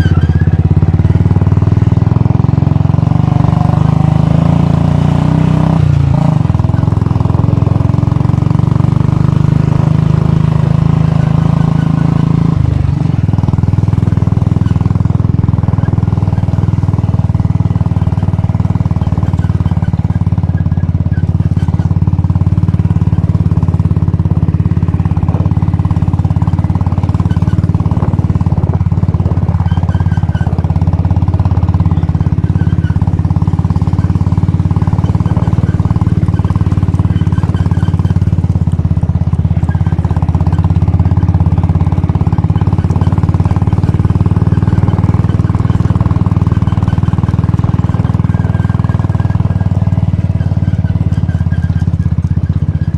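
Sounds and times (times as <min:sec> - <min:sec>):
motorcycle engine running steadily: 0:00.0 - 0:52.9.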